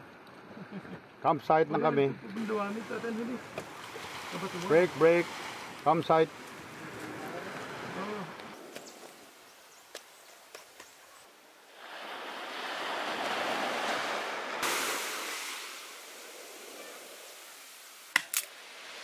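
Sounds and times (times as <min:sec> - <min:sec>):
surf washing onto beach: 0:02.4 - 0:10.8, 0:11.6 - 0:19.0.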